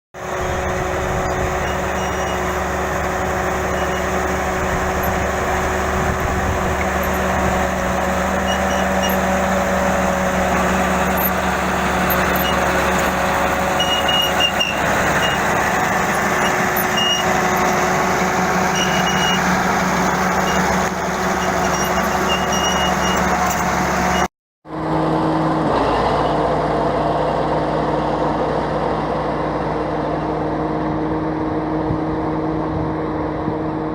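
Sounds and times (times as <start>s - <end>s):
bulldozer diesel engine running: 0.2s - 33.9s.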